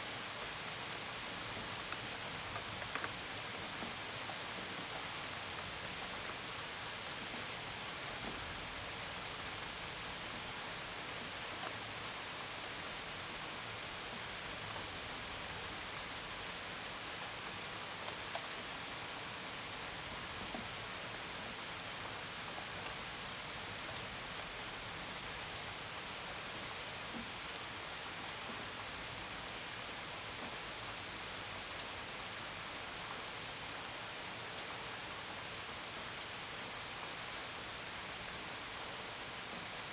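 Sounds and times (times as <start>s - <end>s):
steady gentle rain: 0.0s - 39.9s
faint crickets chirping: 0.3s - 39.9s.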